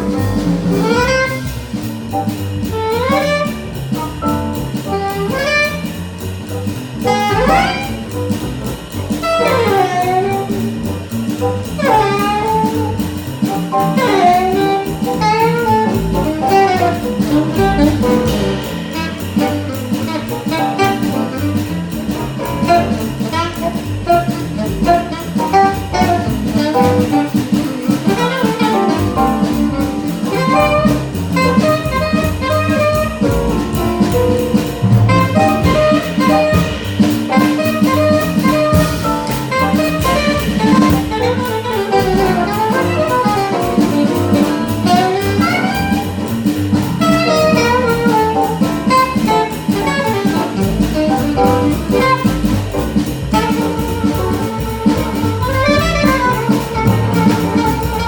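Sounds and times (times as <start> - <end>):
trumpet: 0.0 - 1.8, 2.6 - 6.1, 7.0 - 8.3, 9.1 - 11.0, 11.8 - 13.0, 13.7 - 58.0
alto saxophone: 0.0 - 58.0
drum kit: 0.0 - 58.0
piano: 0.0 - 58.0
upright bass: 0.0 - 58.0.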